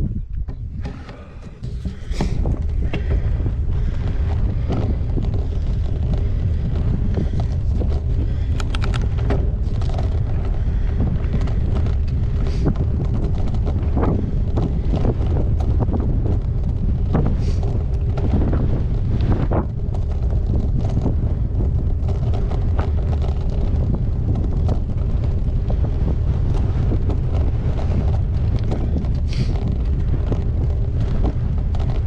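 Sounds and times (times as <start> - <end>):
bike clicks and rattles: 0.0 - 32.0
wind buffeting microphone: 0.0 - 32.0.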